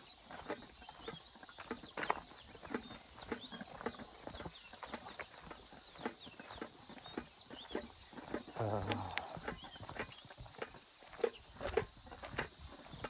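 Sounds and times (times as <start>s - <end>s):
bird chirping: 0.0s - 11.7s
footsteps crunching: 1.7s - 12.8s.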